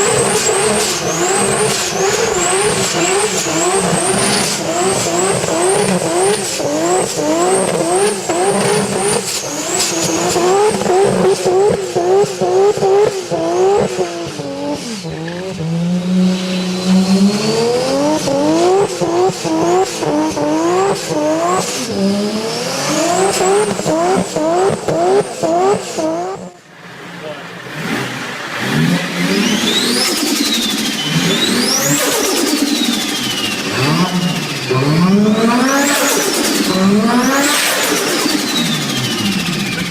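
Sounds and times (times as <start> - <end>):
car engine revving: 0.0 - 39.9
high engine whine: 0.0 - 39.9.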